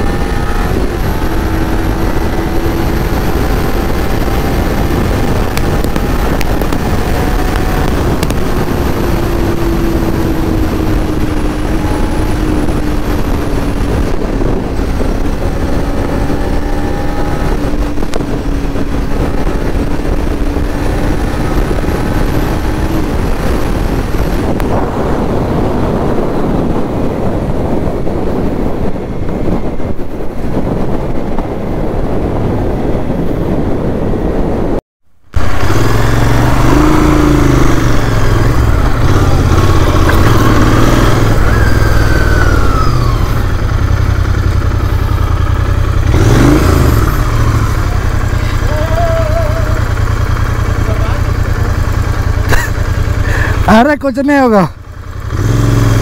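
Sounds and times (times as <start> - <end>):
low engine drone: 0.0 - 56.0
motorcycle engine: 0.0 - 56.0.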